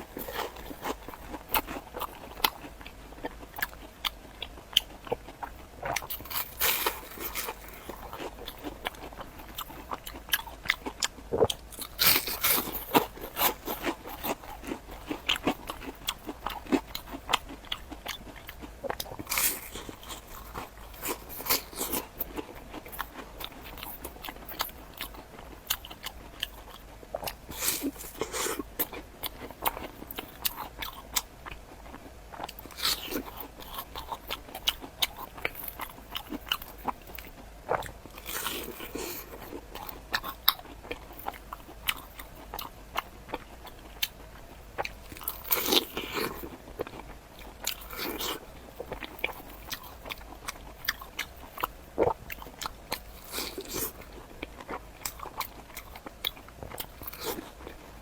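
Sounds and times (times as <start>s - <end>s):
crunchy bites and chewing: 0.0s - 58.0s.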